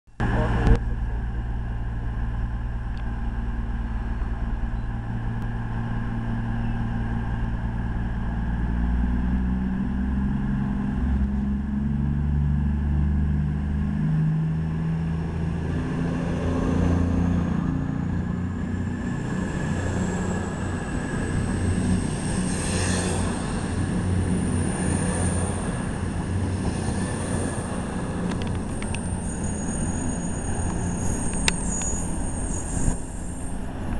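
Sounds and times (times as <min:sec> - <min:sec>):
diesel train engines: 0:00.2 - 0:33.9
high whine rising in pitch: 0:00.2 - 0:33.9
train cars rumbling past: 0:00.2 - 0:33.9.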